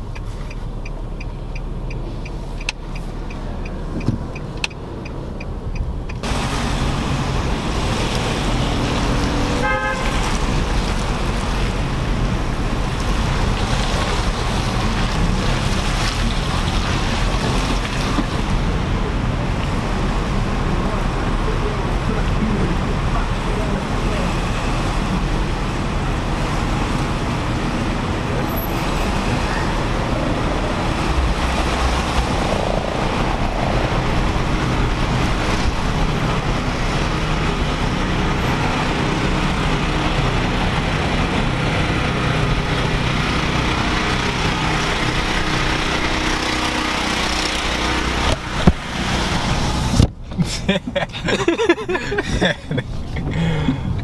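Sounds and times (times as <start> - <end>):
tyre noise on wet road: 0.0 - 54.0.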